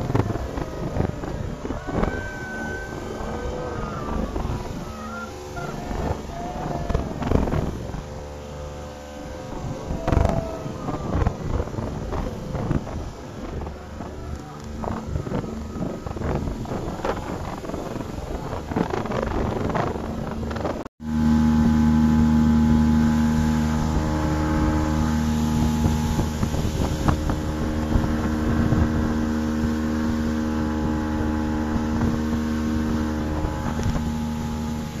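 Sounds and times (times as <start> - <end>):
motorboat engine running: 0.0 - 35.0
water rushing: 0.0 - 35.0
wind buffeting microphone: 0.0 - 35.0.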